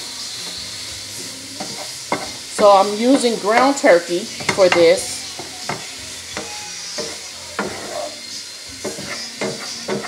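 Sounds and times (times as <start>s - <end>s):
meat sizzling: 0.0s - 10.0s
wooden spoon scraping a pan: 0.4s - 10.0s.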